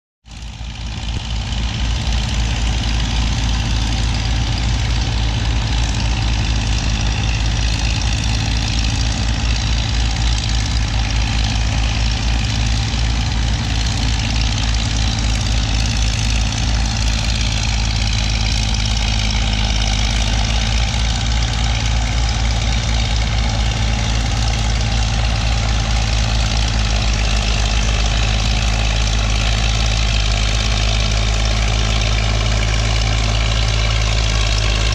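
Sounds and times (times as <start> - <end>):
bulldozer diesel engines running: 0.3 - 34.9.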